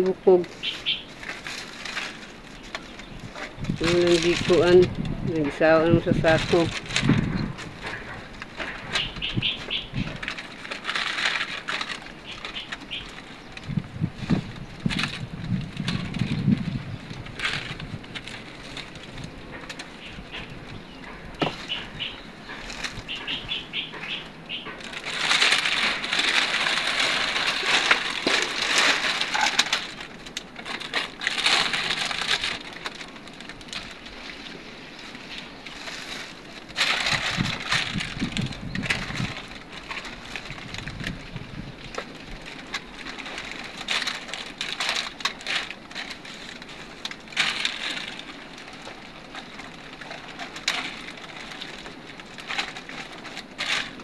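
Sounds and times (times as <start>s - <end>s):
debris crunching and scraping: 0.0s - 54.0s
plastic sack rustling: 0.0s - 54.0s.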